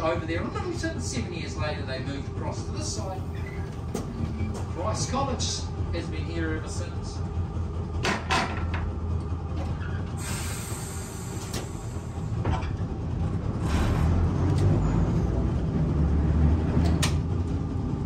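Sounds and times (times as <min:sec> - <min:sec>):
tram rumbling on track: 0:00.0 - 0:18.0.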